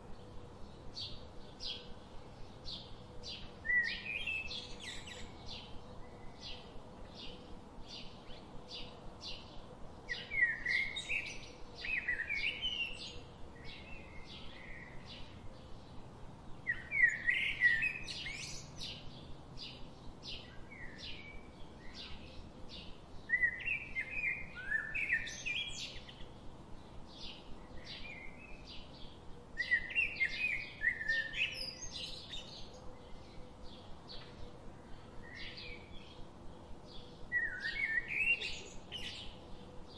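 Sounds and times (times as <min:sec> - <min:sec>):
bird warbling song: 0:02.6 - 0:39.9.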